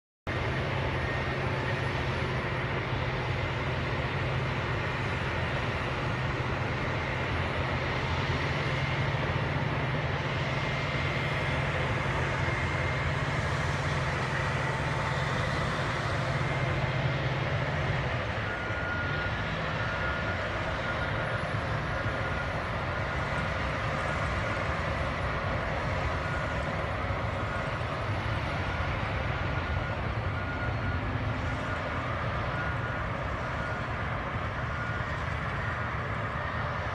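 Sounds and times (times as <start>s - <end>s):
bulldozer diesel engines droning: 0.3s - 36.9s
faint high whine: 0.3s - 36.9s.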